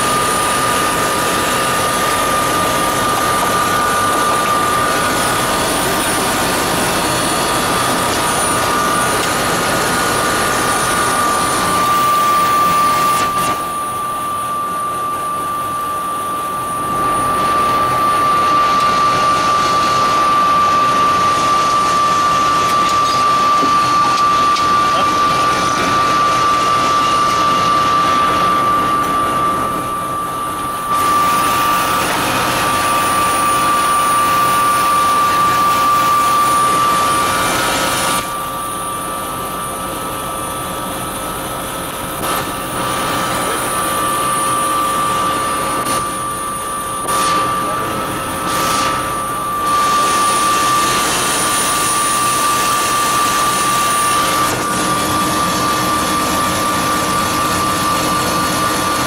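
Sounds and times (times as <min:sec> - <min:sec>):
helicopter engine whine: 0:00.0 - 0:59.0
helicopter rotor noise: 0:00.0 - 0:59.0.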